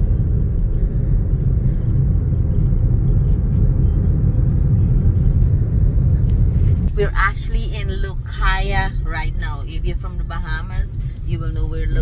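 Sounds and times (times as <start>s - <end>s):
car driving on road: 0.0s - 12.0s.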